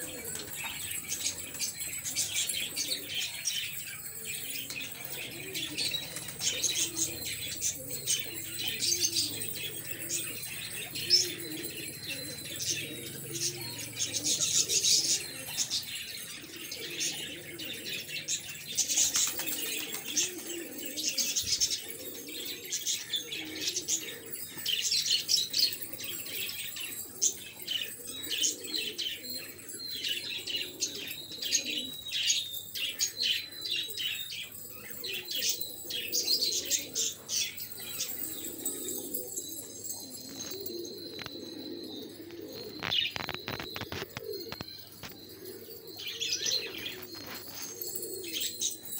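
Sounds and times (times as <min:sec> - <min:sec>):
high chirping calls: 0:00.0 - 0:48.9
pigeons cooing: 0:00.0 - 0:48.9.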